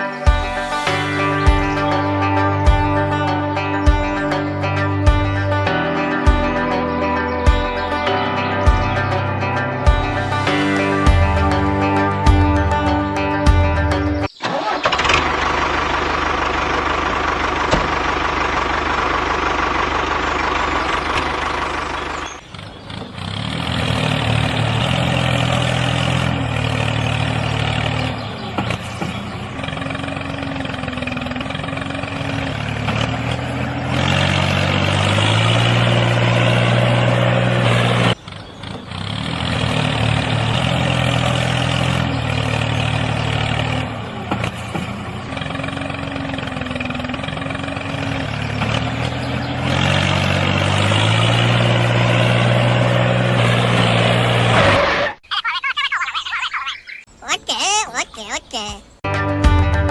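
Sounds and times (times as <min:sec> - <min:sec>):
tractor-like engine running: 0:00.0 - 0:55.2.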